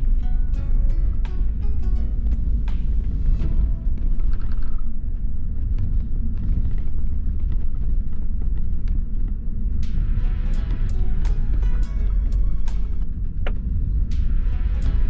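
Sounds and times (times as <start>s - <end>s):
bus engine and tyres rumbling: 0.0s - 15.0s.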